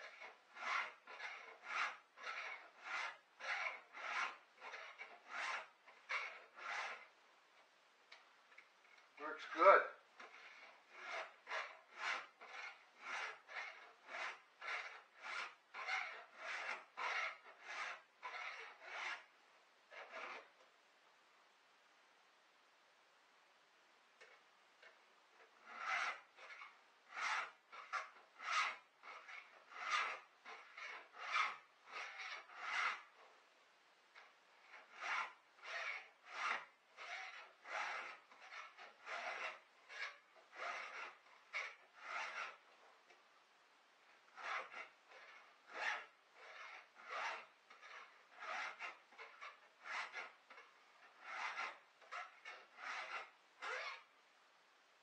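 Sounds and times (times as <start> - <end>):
file rasping on chain: 0.0 - 7.1, 9.2 - 19.3, 19.9 - 20.6, 24.8 - 33.3, 34.2 - 42.7, 44.2 - 54.1.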